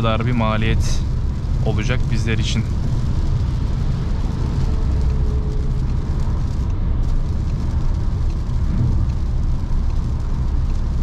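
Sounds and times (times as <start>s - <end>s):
tyre and road rumble: 0.0s - 11.0s
water spray and rain hiss: 0.0s - 11.0s.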